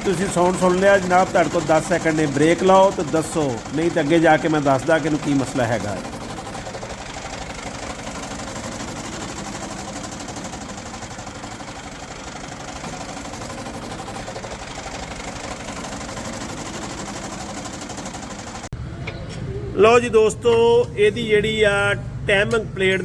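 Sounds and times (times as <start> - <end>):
loose metal cover rattling: 0.0 - 18.6
tractor engine idling: 0.0 - 18.7.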